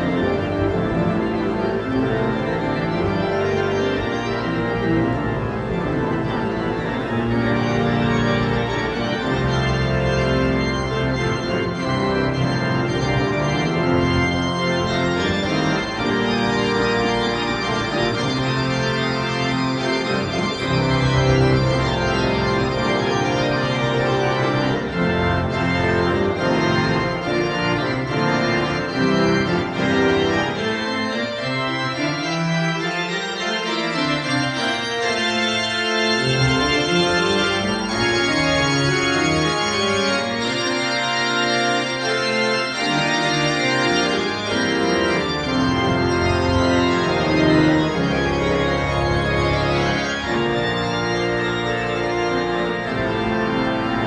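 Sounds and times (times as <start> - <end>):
deep organ bass notes: 0.0 - 54.0
pipe organ playing: 0.0 - 54.0.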